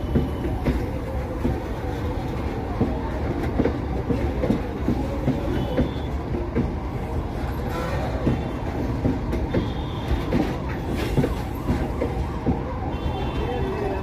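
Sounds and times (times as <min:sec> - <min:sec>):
train wagons knocking and clanking: 0:00.0 - 0:14.0
train wheels rumbling on rails: 0:00.0 - 0:14.0.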